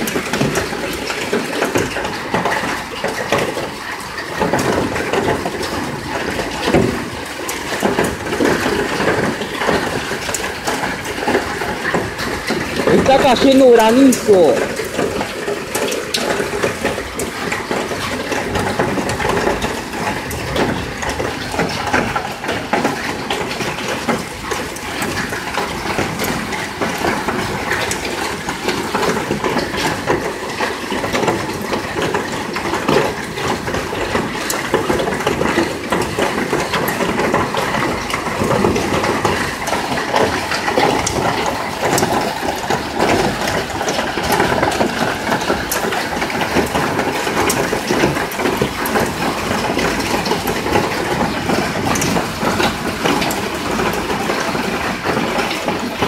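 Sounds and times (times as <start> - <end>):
hail clattering: 0.0 - 56.0
rain downpour hissing: 0.0 - 56.0.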